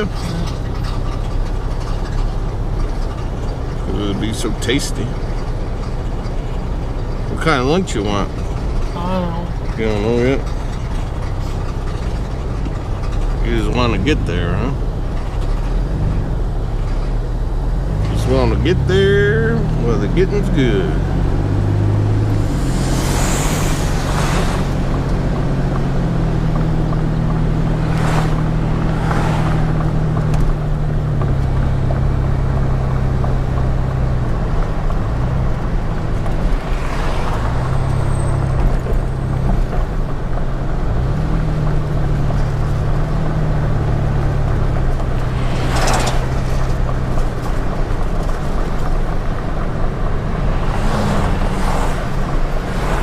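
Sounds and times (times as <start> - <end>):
road noise: 0.0 - 53.0
truck engine drone: 0.0 - 53.0
vehicles whooshing past: 0.0 - 53.0.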